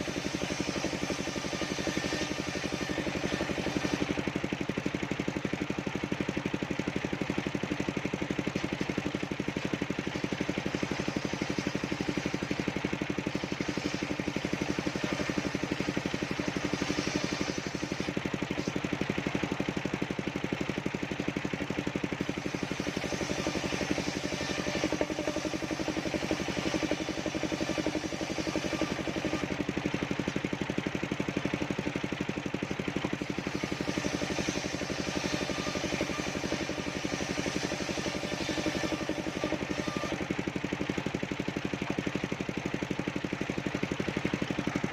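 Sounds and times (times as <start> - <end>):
higher noisy sawing layer: 0.0 - 5.8, 7.3 - 19.6, 21.5 - 41.2
sawmill engine running: 0.0 - 44.9.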